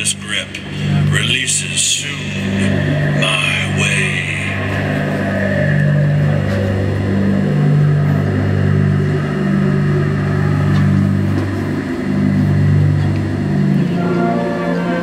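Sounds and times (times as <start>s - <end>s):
deep sustained low brass notes: 0.0s - 15.0s
higher brass chords: 0.0s - 15.0s.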